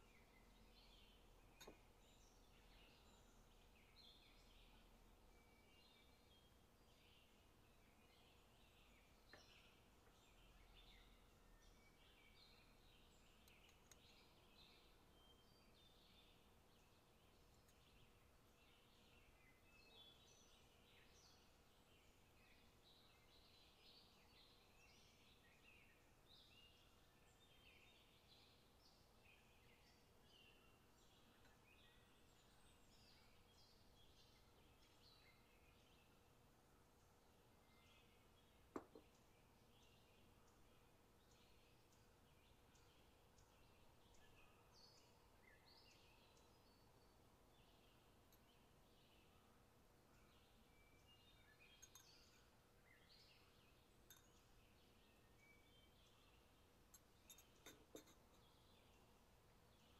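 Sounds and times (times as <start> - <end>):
faint bird chirps: 0.0 - 59.9.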